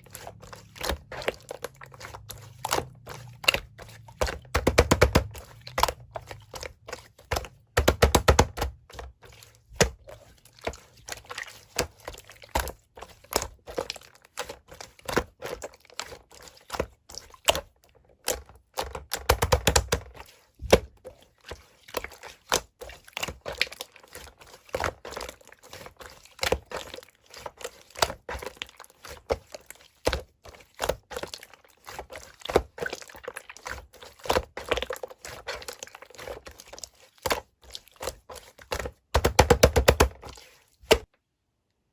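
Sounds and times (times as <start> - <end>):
slime squelching and popping: 0.0 - 41.1.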